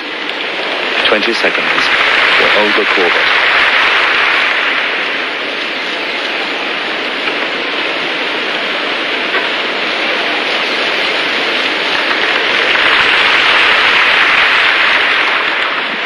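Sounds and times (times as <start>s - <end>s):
crowd applause: 0.0s - 7.6s, 9.2s - 16.0s.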